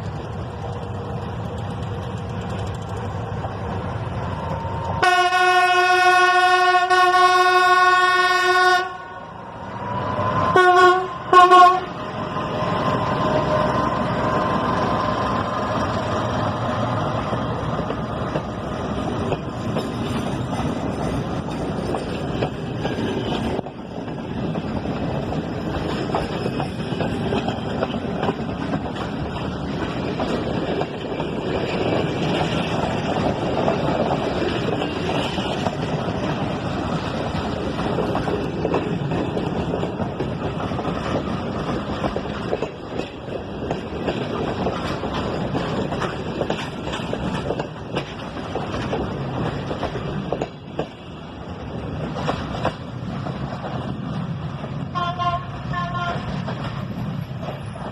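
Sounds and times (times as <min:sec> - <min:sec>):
train rumbling past on rails: 0:00.0 - 0:57.9.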